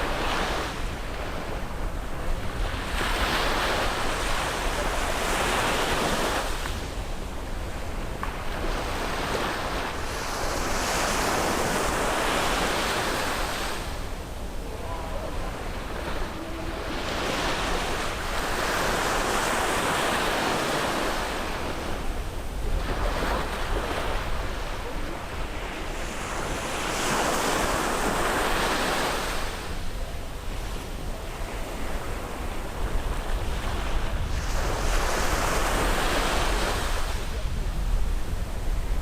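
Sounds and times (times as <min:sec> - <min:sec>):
sea waves breaking on beach: 0:00.0 - 0:39.0
wind rumble on microphone: 0:00.0 - 0:39.0.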